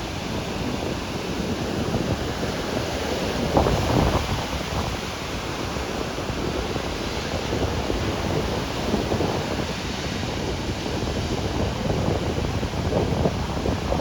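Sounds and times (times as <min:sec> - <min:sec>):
waves breaking on beach: 0:00.0 - 0:14.0
wind buffeting microphone: 0:00.0 - 0:14.0.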